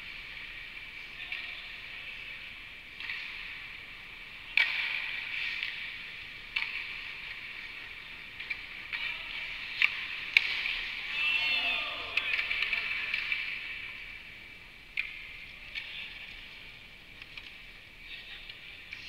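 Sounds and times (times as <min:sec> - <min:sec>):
hockey sticks and puck clacking: 0:00.0 - 0:19.0.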